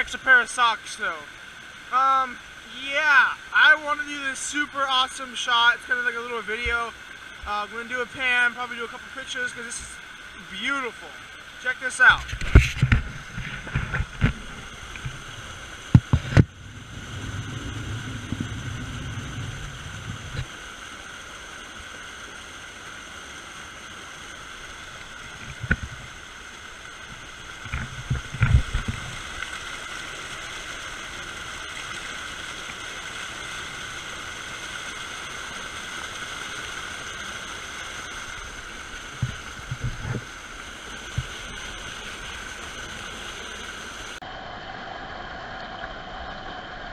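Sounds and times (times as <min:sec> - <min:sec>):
creek water flowing: 0:00.0 - 0:46.9
waterfall rushing: 0:00.0 - 0:46.9.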